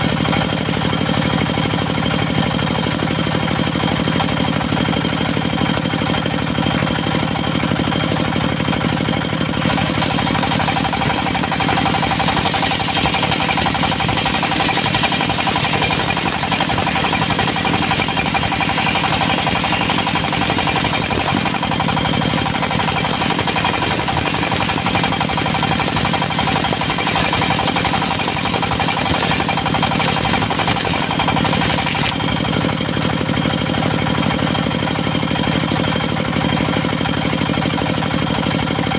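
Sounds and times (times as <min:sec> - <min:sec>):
circular sawmill running: 0:00.0 - 0:38.9.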